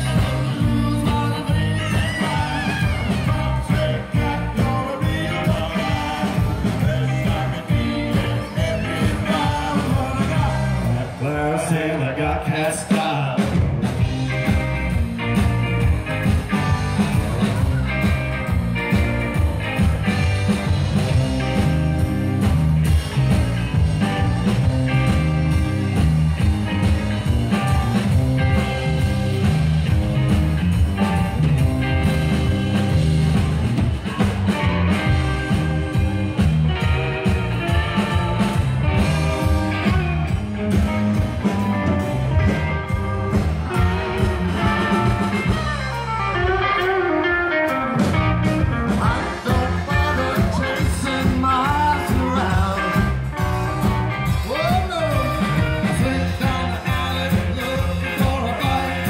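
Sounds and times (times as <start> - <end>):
drum kit: 0.0 - 59.0
electric bass: 0.0 - 59.0
electric guitars: 0.0 - 59.0.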